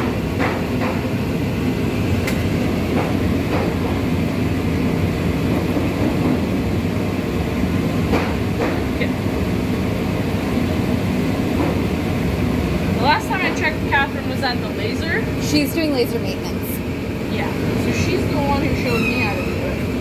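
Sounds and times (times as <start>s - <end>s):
workshop machinery rumble: 0.0s - 20.0s.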